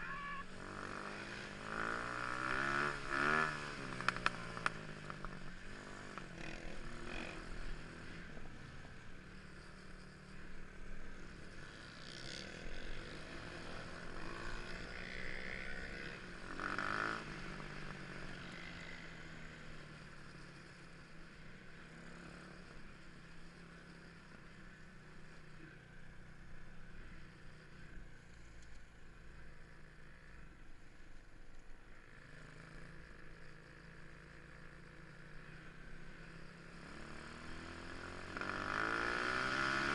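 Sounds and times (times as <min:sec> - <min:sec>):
motorcycle engine revving: 0:00.0 - 0:28.7, 0:31.9 - 0:39.9.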